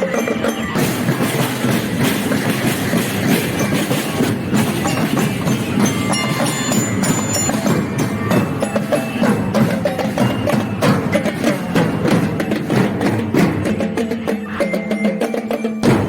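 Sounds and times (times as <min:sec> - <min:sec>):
marching drum band playing: 0:00.0 - 0:16.0.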